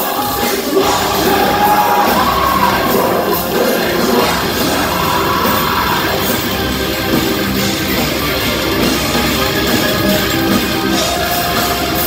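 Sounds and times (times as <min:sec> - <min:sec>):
electric guitars: 0:00.0 - 0:12.0
heavy metal band playing live: 0:00.0 - 0:12.0.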